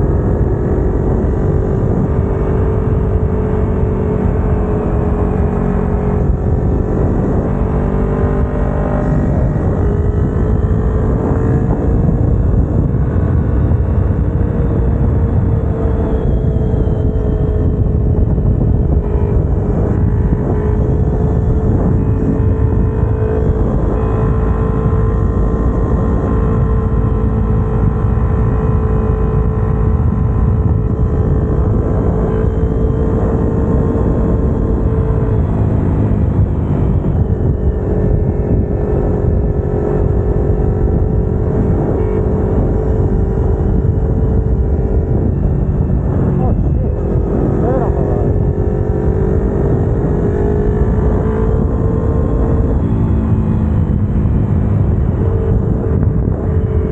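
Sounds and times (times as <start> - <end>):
motorcycle engine cruising: 0.0 - 56.9
wind and road rush: 0.0 - 56.9.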